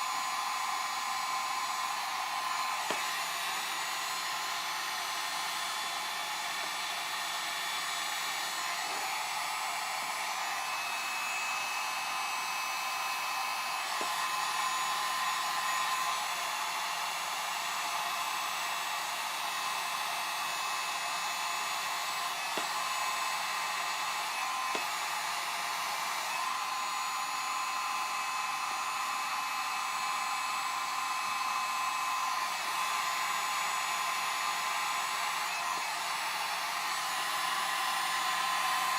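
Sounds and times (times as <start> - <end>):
hot-air blower running: 0.0 - 38.9.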